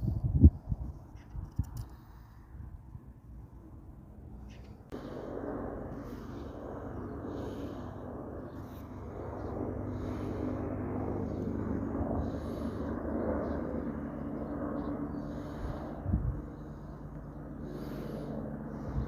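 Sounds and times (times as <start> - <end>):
helicopter drone: 0.0 - 19.0.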